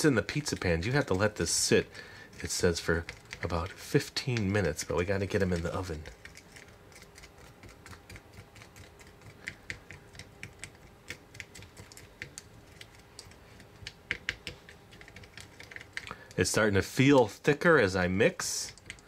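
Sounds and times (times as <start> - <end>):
plastic spatula stirring paste: 0.0 - 17.4, 18.2 - 19.0.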